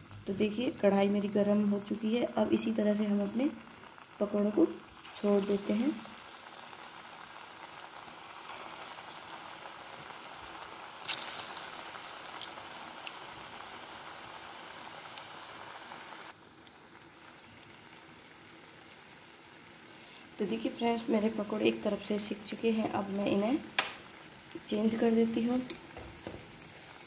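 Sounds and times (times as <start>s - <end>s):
food deep-frying in oil: 0.0s - 27.0s.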